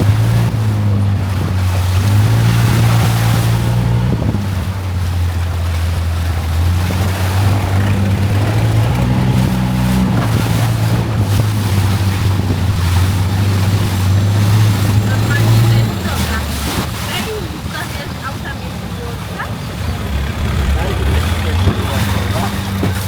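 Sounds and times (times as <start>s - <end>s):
boat engine humming: 0.0s - 23.0s
wind: 0.0s - 23.0s.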